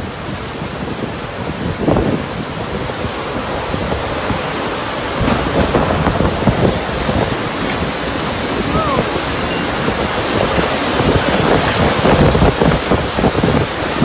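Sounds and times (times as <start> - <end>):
heavy rain: 0.0 - 14.0
strong wind buffeting microphone: 0.0 - 14.0.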